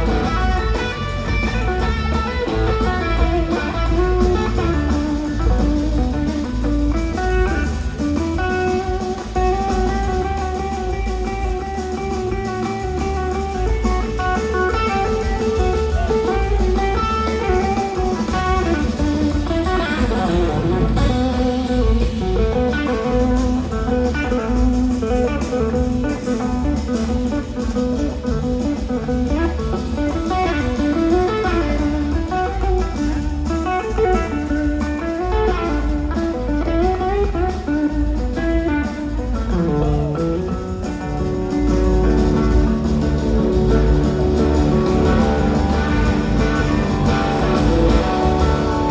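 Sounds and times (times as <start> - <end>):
bass guitar: 0.0 - 48.9
drums: 0.0 - 48.9
electric guitar soloing: 0.0 - 48.9
keyboards: 0.0 - 48.9.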